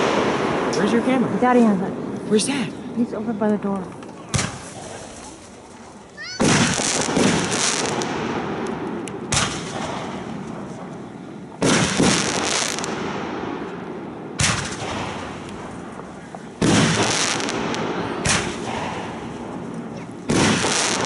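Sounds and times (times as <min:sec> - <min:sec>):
firework shells banging: 0:03.6 - 0:21.0.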